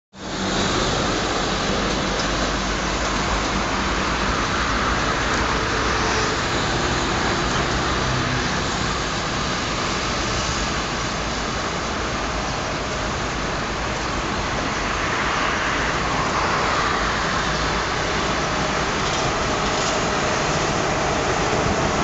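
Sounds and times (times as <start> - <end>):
city road traffic hum: 0.1 - 22.0
approaching train rolling: 0.2 - 22.0.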